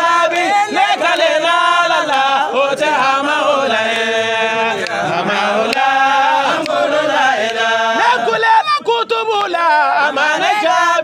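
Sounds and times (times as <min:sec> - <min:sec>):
voices chanting a devotional song: 0:00.0 - 0:11.0.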